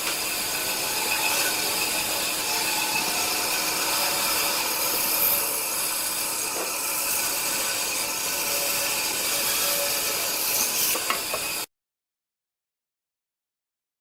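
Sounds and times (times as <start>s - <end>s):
wood lathe cutting wood: 0.0s - 11.7s.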